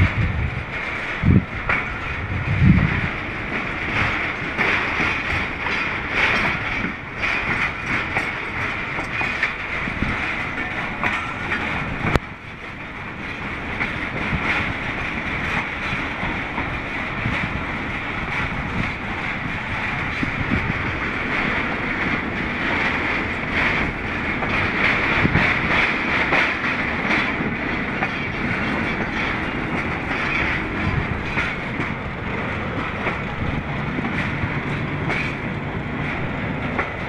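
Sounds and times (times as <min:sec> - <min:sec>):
train running noise: 0:00.0 - 0:37.0
wheels clattering over rail joints: 0:00.0 - 0:37.0.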